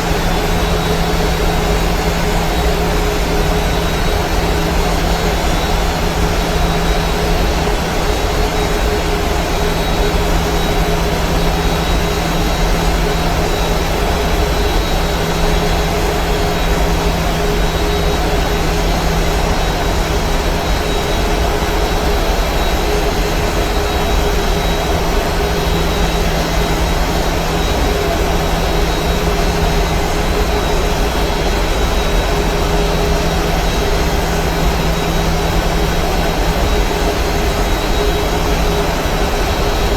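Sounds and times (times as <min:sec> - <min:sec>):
constant hum tones: 0:00.0 - 0:39.9
jet engines droning: 0:00.0 - 0:39.9.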